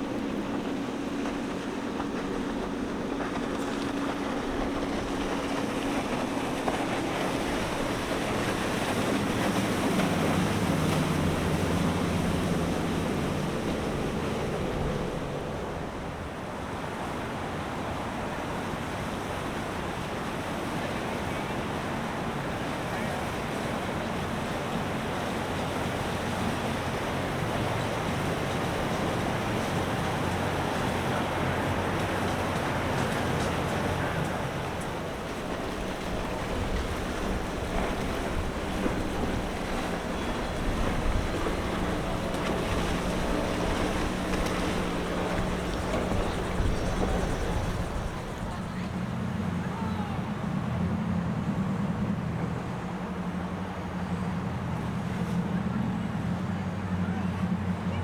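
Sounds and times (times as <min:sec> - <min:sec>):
boat engine running: 0:00.0 - 0:58.0
water noise: 0:00.0 - 0:58.0
wind: 0:00.0 - 0:58.0.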